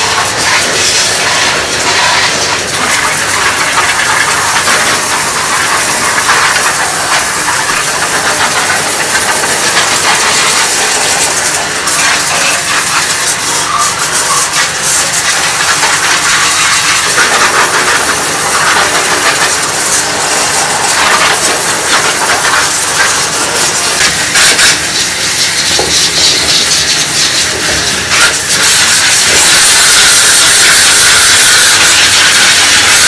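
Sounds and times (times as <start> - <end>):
hose water spraying on metal tub: 0.0 - 33.0.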